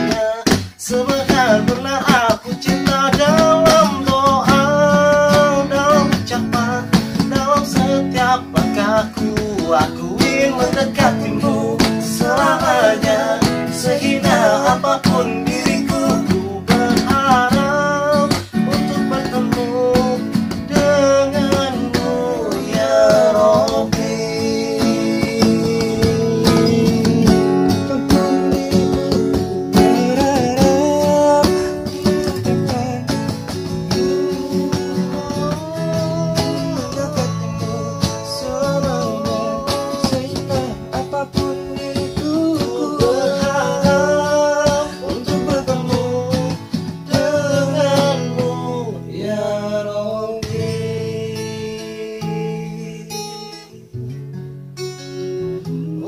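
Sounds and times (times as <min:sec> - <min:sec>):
man singing: 0:00.0 - 0:54.0, 0:55.6 - 0:56.0
acoustic guitar strumming: 0:00.0 - 0:56.0.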